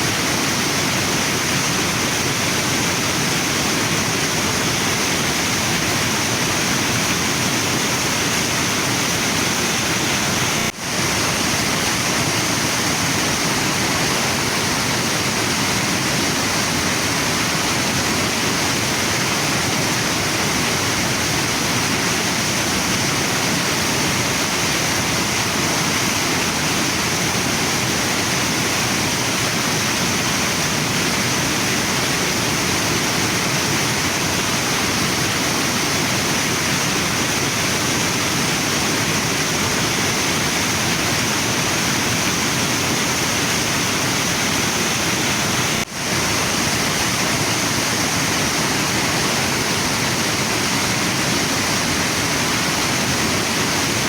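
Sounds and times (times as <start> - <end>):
waterfall and river rushing: 0.0 - 54.0.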